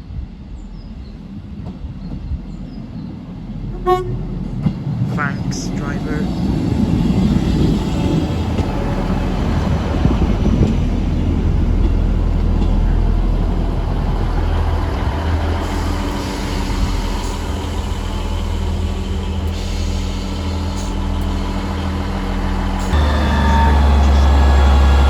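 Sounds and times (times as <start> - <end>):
diesel train engine: 0.6 - 25.0.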